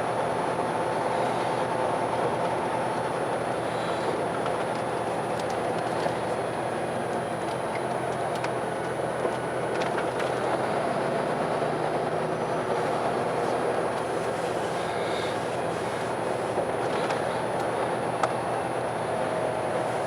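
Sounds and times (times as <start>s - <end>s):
vehicle running rumble: 0.0s - 20.0s.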